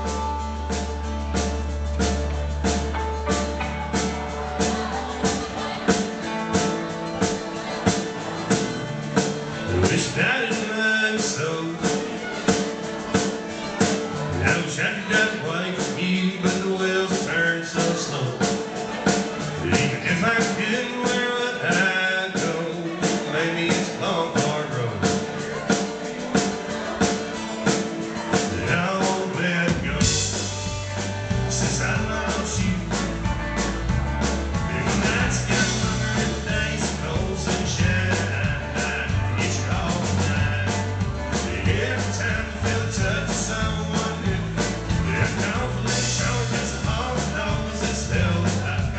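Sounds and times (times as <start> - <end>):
country rock band playing: 0.0 - 48.9.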